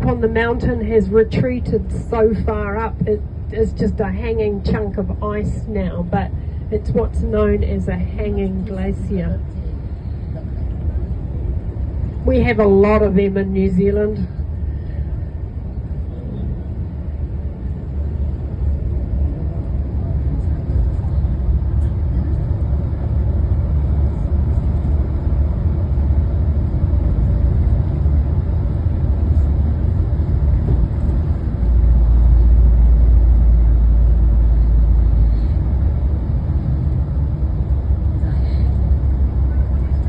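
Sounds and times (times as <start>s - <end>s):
engine and road rumble in cabin: 0.0s - 40.0s.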